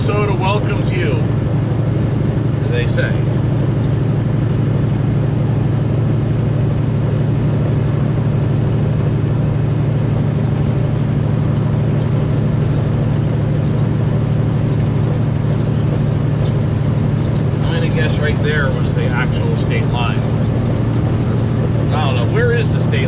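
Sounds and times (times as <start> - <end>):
road noise: 0.0 - 23.0
truck diesel engine droning: 0.0 - 23.0.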